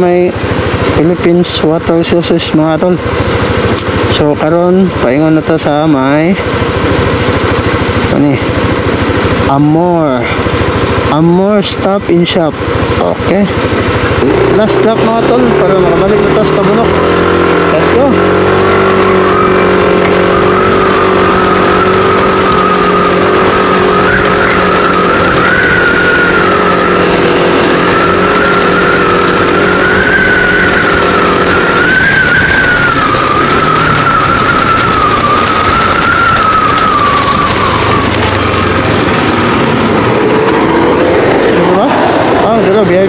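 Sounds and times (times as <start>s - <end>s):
low engine hum: 0.0s - 43.0s
scooter engine whine: 0.0s - 43.0s.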